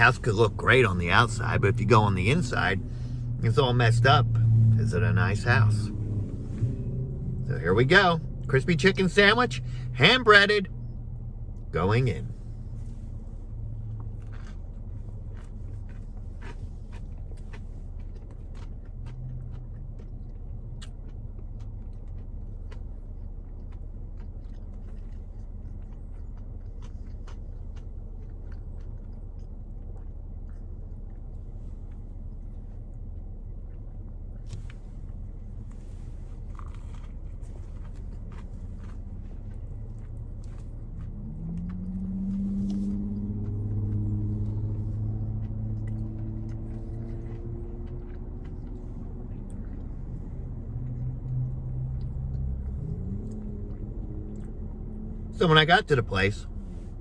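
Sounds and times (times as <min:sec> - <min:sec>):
man chewing crispy food: 0:00.0 - 0:08.4, 0:11.0 - 0:57.0
low hum: 0:00.0 - 0:57.0.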